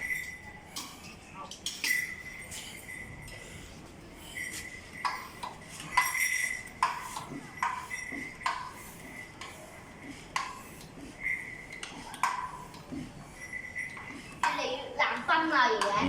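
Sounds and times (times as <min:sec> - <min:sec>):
hand pump metallic clink: 0:00.0 - 0:15.9.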